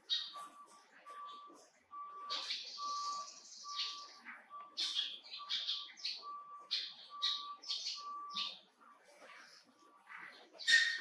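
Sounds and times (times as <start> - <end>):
high bird chirps: 0.0 - 8.7, 9.9 - 11.0.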